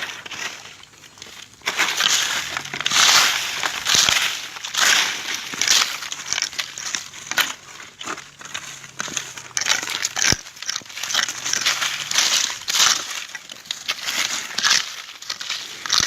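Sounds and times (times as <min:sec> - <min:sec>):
dry leaves crunching and rustling: 0:00.0 - 0:16.0
sharp crackle: 0:00.0 - 0:16.0.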